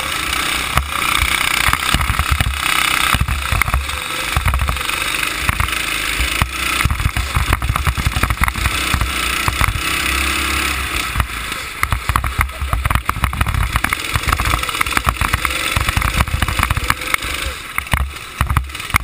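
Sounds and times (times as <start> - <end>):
go-kart engine under throttle: 0.0 - 19.0.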